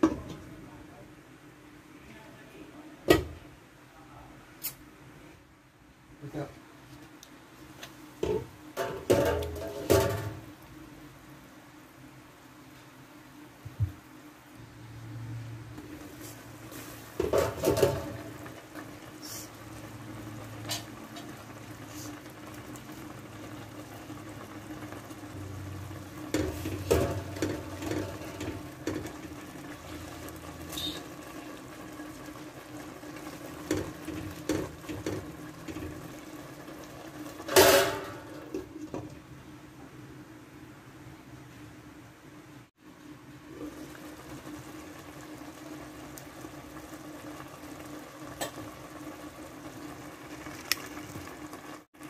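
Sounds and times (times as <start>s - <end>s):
soup boiling in a pot: 4.6s - 52.0s.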